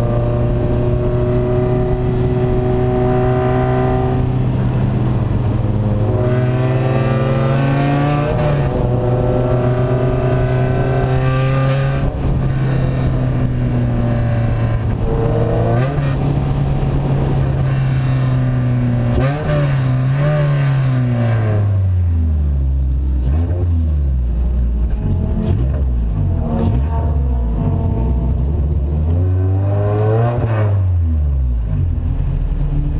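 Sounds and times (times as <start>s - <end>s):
loud car engine revving: 0.0s - 32.9s.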